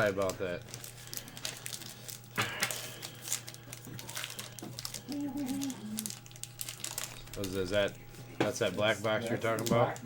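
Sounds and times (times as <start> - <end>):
cards and wrappers crinkling: 0.0 - 10.0
steady low hum: 0.0 - 10.0.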